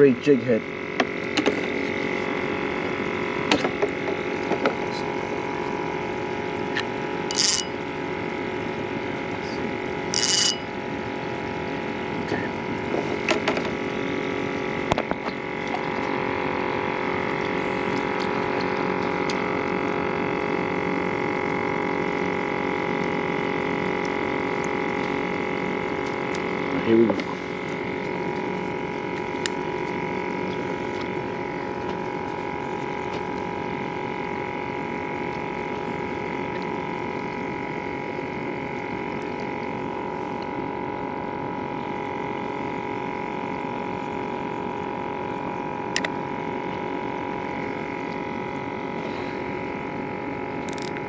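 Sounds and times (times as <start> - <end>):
aerator pump humming: 0.0 - 51.0.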